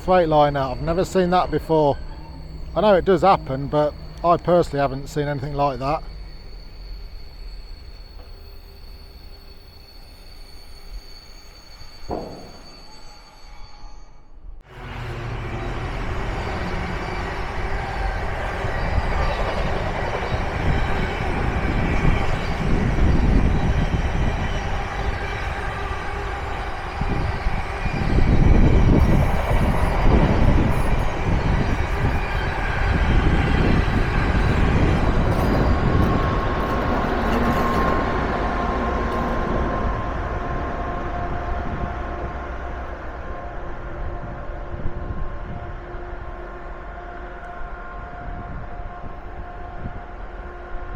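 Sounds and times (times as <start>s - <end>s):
steady whine: 0.0s - 13.3s, 14.7s - 50.7s
train rumbling on rails: 0.0s - 50.9s.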